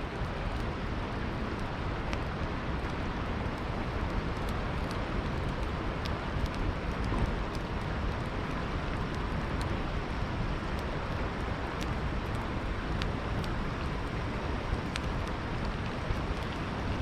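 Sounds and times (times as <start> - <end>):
campfire crackling and popping: 0.1 - 17.0.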